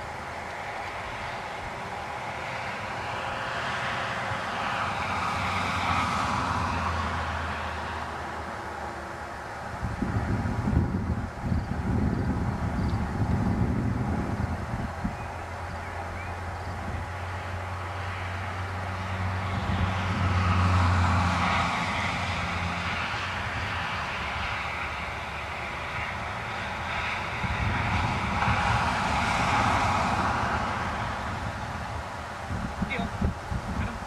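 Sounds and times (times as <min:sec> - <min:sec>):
passing motor traffic: 0:00.0 - 0:34.0.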